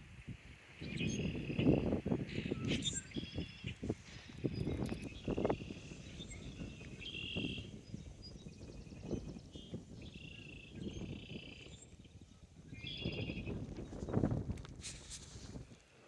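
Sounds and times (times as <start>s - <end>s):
songbirds singing: 0.0s - 14.8s.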